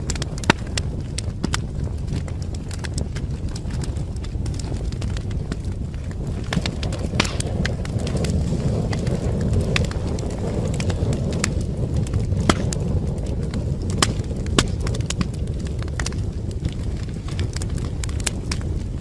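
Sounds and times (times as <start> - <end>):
fire crackling and popping: 0.0 - 19.0
low rumble of flame: 0.0 - 19.0.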